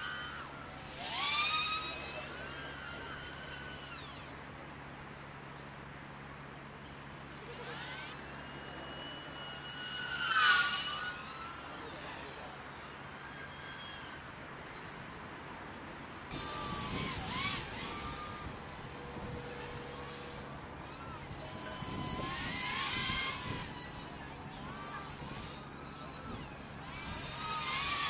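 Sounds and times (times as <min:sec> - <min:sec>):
quadcopter motors whining: 0:00.0 - 0:15.2, 0:16.2 - 0:28.0.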